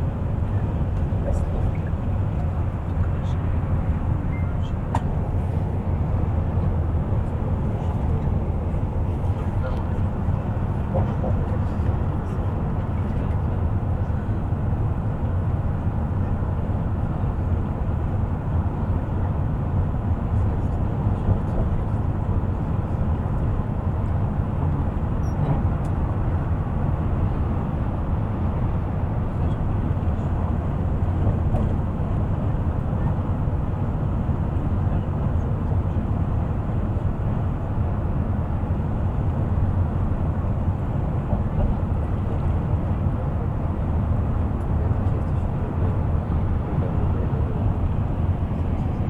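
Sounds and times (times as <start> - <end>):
bus engine and tyres rumbling: 0.0 - 49.0.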